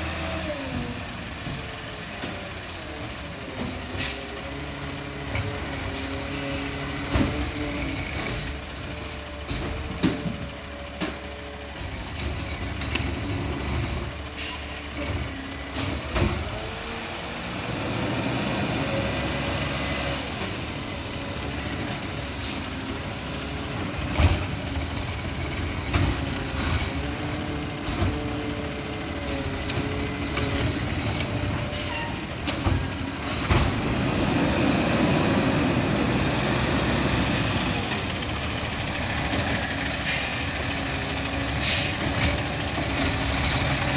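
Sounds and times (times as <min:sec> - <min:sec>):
garbage truck diesel engine: 0:00.0 - 0:43.9.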